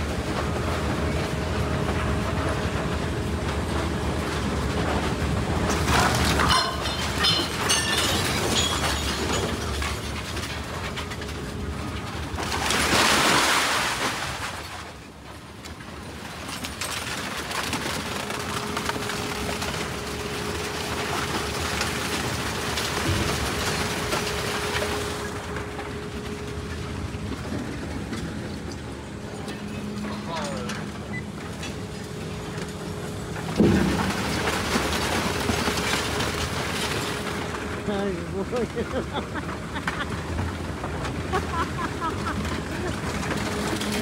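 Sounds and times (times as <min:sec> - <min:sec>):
scrap metal shredder grinding: 0:00.0 - 0:14.4, 0:16.2 - 0:44.0.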